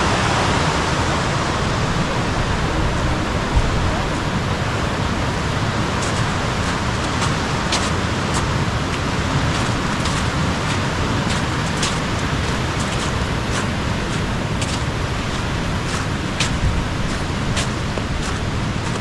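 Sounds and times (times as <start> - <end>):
fast-flowing water rushing: 0.0 - 19.0.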